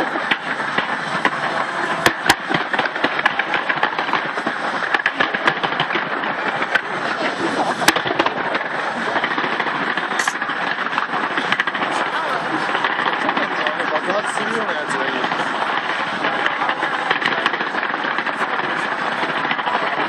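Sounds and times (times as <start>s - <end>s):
fireworks crackling: 0.0s - 20.0s
sharp firework bangs: 0.0s - 20.0s.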